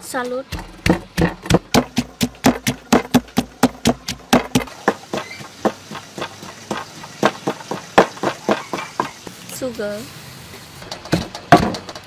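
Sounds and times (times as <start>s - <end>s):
pestle pounding in wooden mortar: 0.2s - 9.2s, 10.8s - 12.0s.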